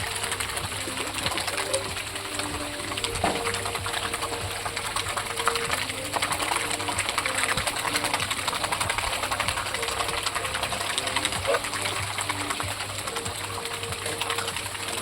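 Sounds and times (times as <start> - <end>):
swan bills dabbling clattering: 0.0 - 15.0.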